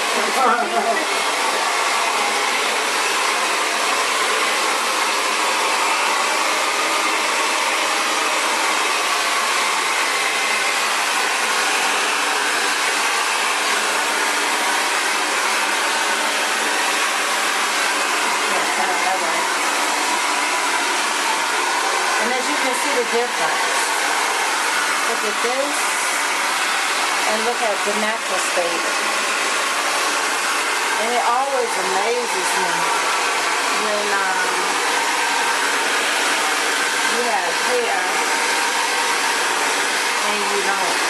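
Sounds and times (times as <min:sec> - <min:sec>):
hair dryer blowing air: 0:00.0 - 0:41.0.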